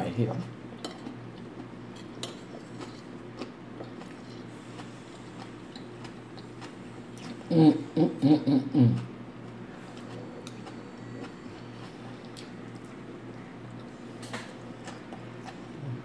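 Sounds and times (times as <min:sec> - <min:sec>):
steady low hum: 0:00.0 - 0:16.0
soft chewing: 0:00.7 - 0:07.8, 0:08.9 - 0:16.0.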